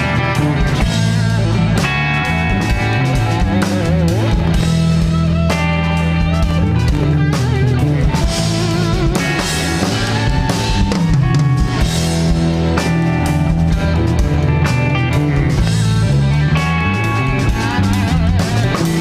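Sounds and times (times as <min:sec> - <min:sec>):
drum kit: 0:00.0 - 0:19.0
electric bass: 0:00.0 - 0:19.0
electric guitar lead: 0:00.0 - 0:19.0.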